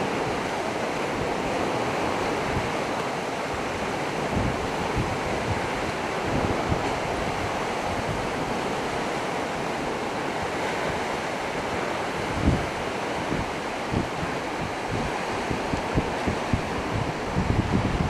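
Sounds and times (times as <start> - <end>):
surf washing against rocks: 0.0 - 18.0
wind buffeting microphone: 0.0 - 18.0.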